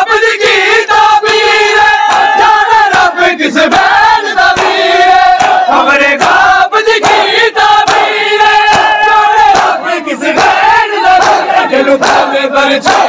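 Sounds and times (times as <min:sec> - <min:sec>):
crowd of men chanting: 0:00.0 - 0:13.0
rhythmic chest-beating slaps: 0:00.0 - 0:13.0.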